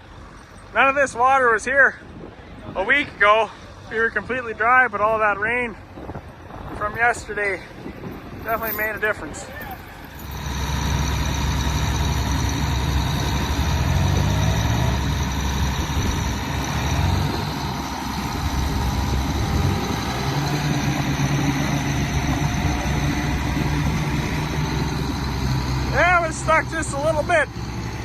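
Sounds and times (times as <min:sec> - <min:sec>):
diesel engine under load: 0:00.0 - 0:28.0.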